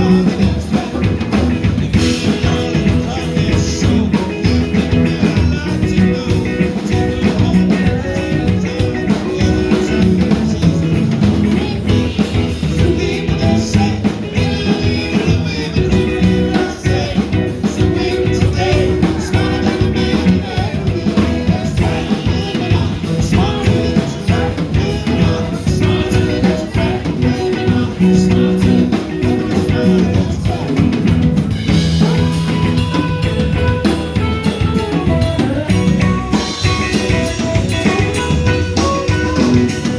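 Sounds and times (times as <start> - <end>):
band playing upbeat rock song: 0.0 - 39.9
person singing: 0.0 - 39.9.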